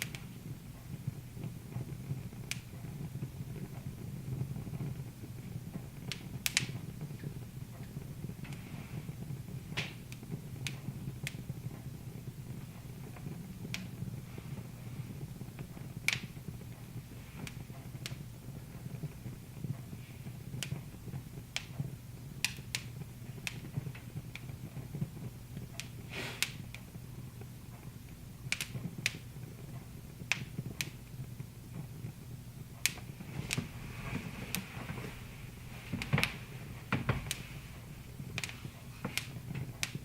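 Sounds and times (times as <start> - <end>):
low steady hum: 0.0 - 40.0
wood fire crackling: 0.0 - 40.0.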